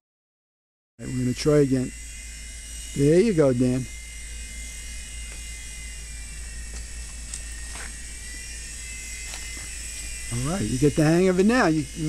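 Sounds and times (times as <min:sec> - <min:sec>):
toy helicopter rotor whining buzz: 0:01.0 - 0:12.0.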